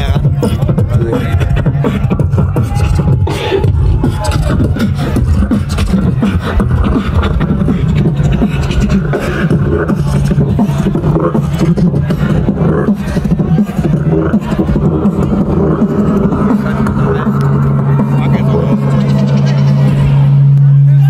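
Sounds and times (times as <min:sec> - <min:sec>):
beatboxing drum strokes: 0:00.0 - 0:21.0
heavy continuous bass: 0:00.0 - 0:21.0.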